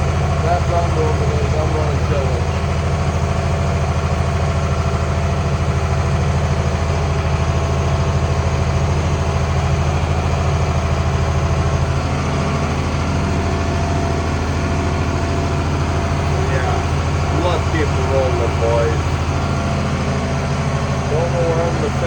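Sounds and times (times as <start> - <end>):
tractor diesel engine droning: 0.0 - 22.0.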